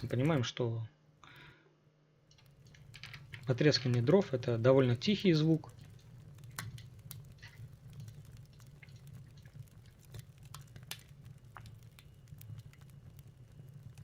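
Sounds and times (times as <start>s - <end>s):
fireplace wood crackling: 0.0s - 0.5s, 1.2s - 1.6s, 2.2s - 14.0s.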